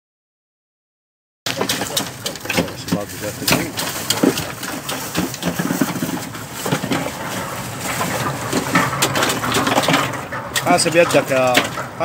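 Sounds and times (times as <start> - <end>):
ice pick chipping ice: 1.5 - 12.0.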